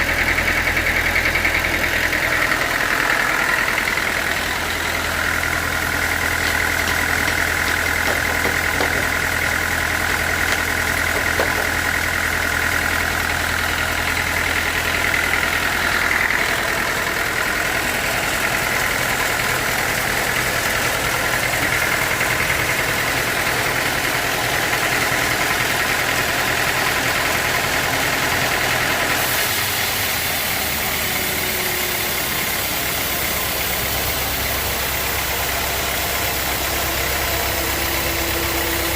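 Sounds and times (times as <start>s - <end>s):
engine low hum: 0.0s - 38.9s
high steady machine whine: 0.0s - 38.9s.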